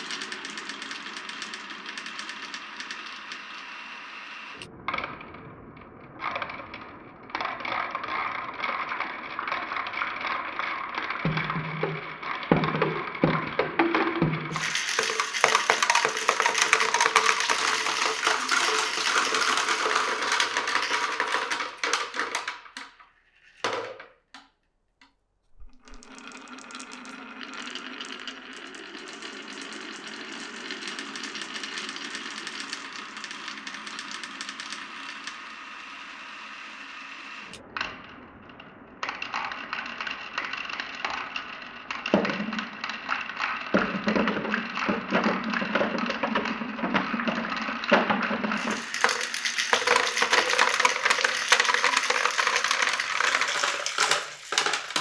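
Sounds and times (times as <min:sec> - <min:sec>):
marbles rolling on wooden run: 0:00.0 - 0:04.7, 0:06.2 - 0:24.2, 0:25.7 - 0:37.6, 0:39.0 - 0:55.0.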